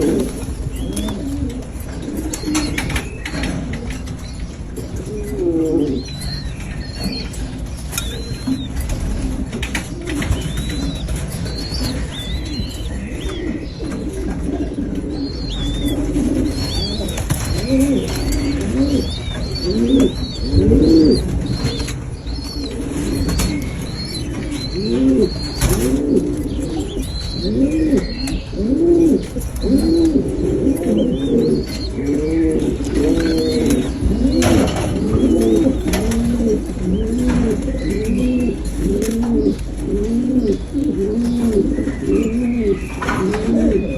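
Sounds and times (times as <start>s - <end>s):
pigeons cooing: 0.0s - 43.9s.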